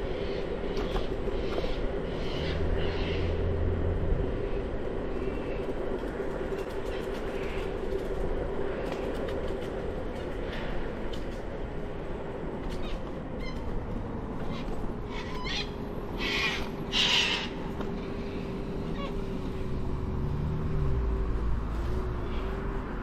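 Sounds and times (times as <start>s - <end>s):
wind and tyre rumble: 0.0s - 23.0s.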